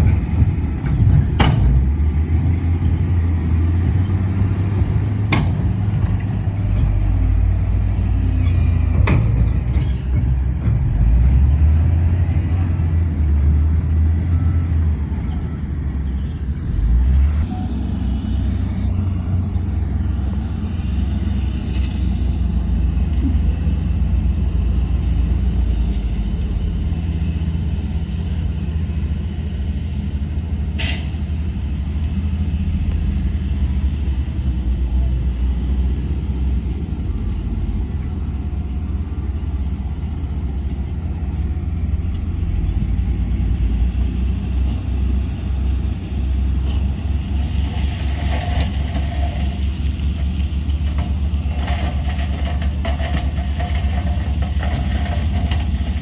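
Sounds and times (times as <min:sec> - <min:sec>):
diesel earthmoving machinery rumbling: 0:00.0 - 0:56.0.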